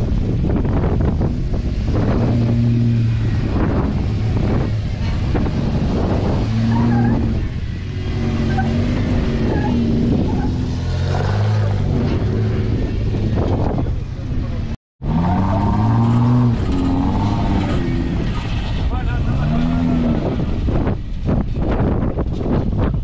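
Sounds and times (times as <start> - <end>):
car engine revving: 0.0 - 22.1.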